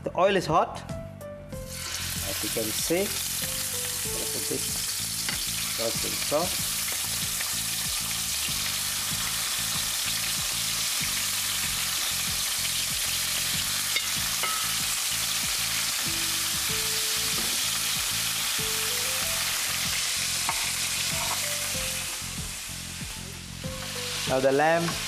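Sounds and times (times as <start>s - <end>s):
meat sizzling in a frying pan: 1.6s - 25.0s.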